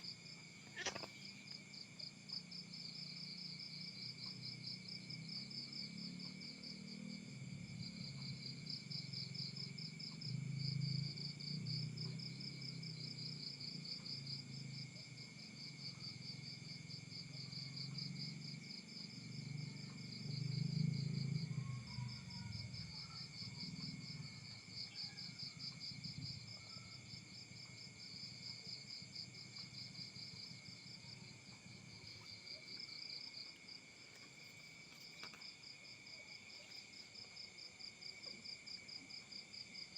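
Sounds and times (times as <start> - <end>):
crickets chirping: 0.0 - 39.9
high insect whine: 0.0 - 39.9.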